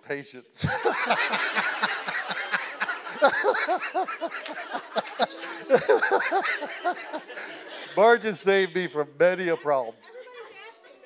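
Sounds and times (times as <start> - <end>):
crowd laughing: 0.6 - 11.0.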